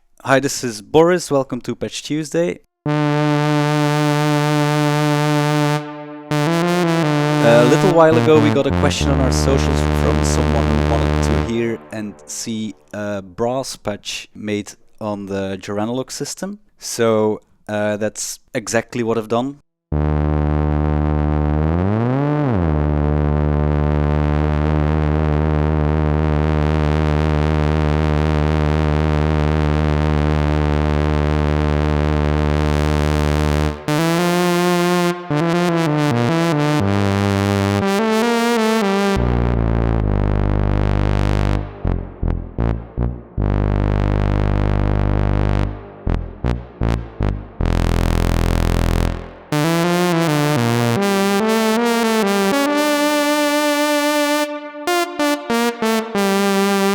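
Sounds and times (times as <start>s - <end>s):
synthesizer brass-like chords: 2.9s - 13.0s, 19.9s - 56.9s.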